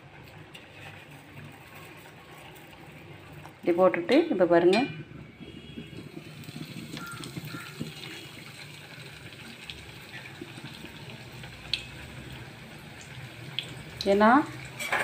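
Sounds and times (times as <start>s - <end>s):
deep-frying sizzle in oil: 0.0s - 15.0s.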